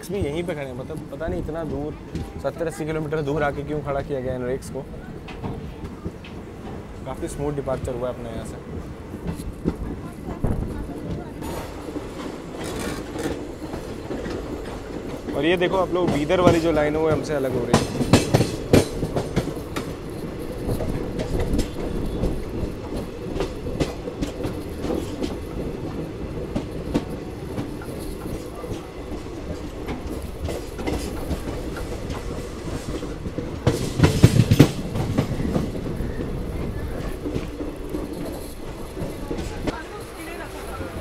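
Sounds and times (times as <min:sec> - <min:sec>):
train wheels rumbling: 0:00.0 - 0:41.0
wheels clacking on rail joints: 0:00.0 - 0:41.0.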